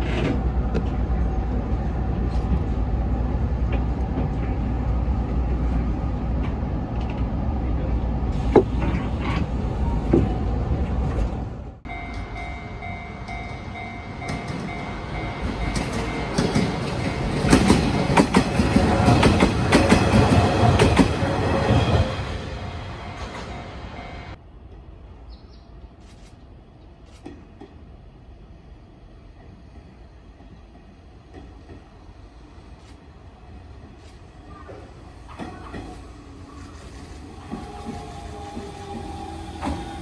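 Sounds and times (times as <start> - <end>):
electric train whine: 0.0 - 24.5, 32.0 - 40.0.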